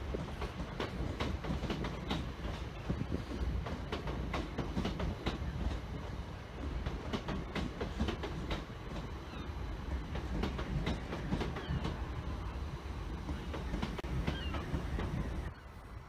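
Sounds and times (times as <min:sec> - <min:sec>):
train wheels clicking over rail joints: 0:00.0 - 0:12.5, 0:13.1 - 0:15.5
train low rumble: 0:00.0 - 0:16.0.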